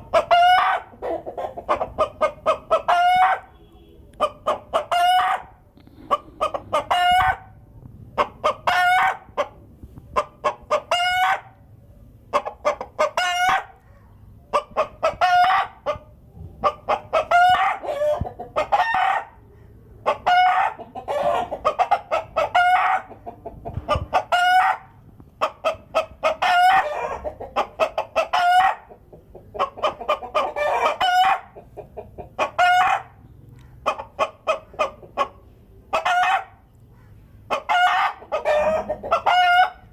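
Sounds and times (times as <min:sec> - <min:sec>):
hens cackling: 0:00.0 - 0:03.5, 0:04.1 - 0:07.6, 0:08.2 - 0:09.6, 0:10.2 - 0:11.6, 0:12.3 - 0:13.8, 0:14.5 - 0:39.9.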